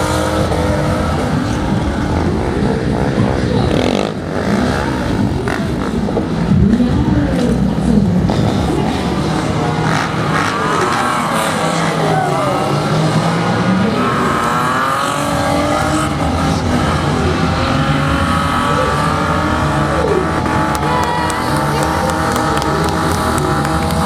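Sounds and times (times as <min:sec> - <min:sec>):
vehicle engines revving: 0:00.0 - 0:24.0.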